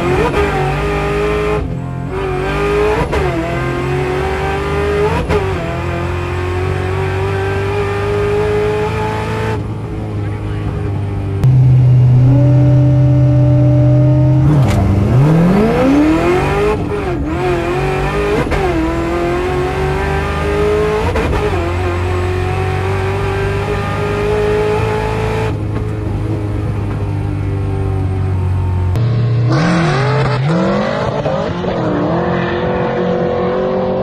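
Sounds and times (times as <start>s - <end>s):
car engine revving through gears: 0.0s - 9.8s, 11.4s - 27.1s, 28.8s - 34.0s.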